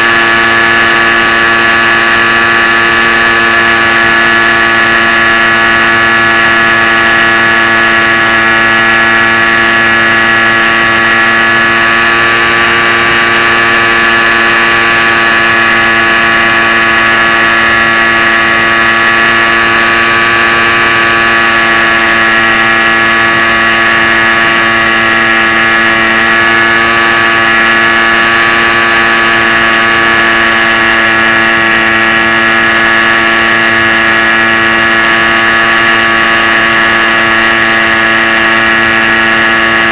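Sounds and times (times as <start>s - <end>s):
model airplane motor whine: 0.0s - 39.9s.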